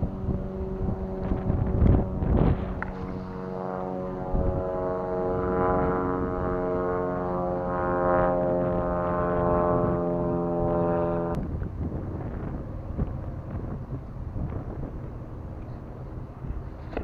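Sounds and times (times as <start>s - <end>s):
engine drone: 0.0s - 17.0s
wind buffeting microphone: 0.0s - 17.0s.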